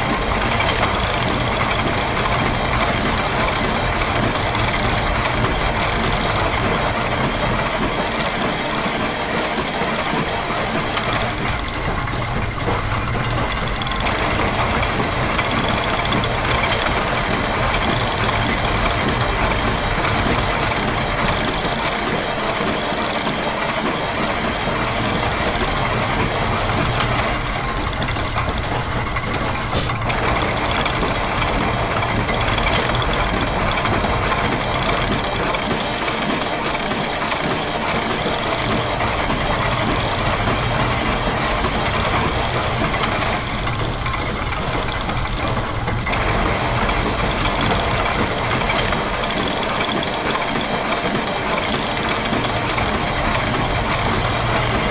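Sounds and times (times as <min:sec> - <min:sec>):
factory machine ratcheting: 0:00.0 - 0:54.9.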